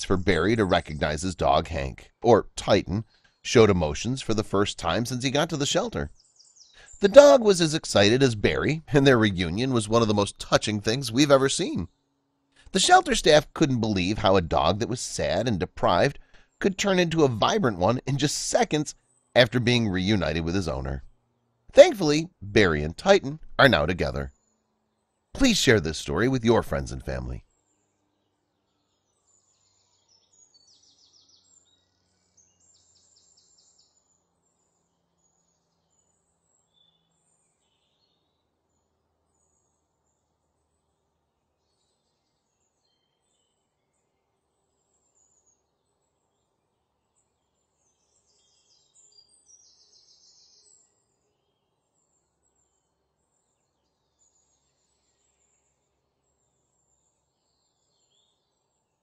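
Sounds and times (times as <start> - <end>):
low steady hiss: 0.0 - 59.0
birdsong chirps and trills: 0.1 - 21.1, 21.8 - 59.0.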